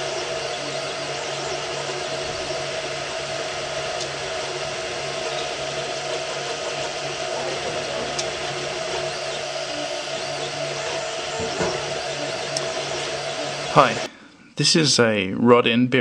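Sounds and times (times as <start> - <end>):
pulsing low hum: 0.0 - 14.6
stepper motors whining: 0.0 - 14.8
cooling fans whirring: 0.0 - 15.4.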